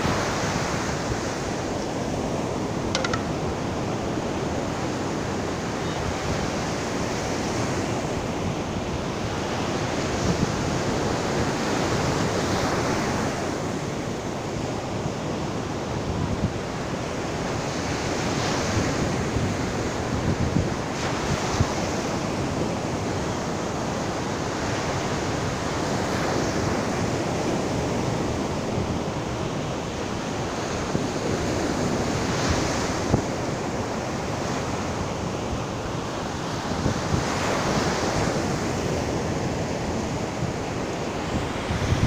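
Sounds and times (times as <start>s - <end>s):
ocean surf breaking on beach: 0.0s - 42.0s.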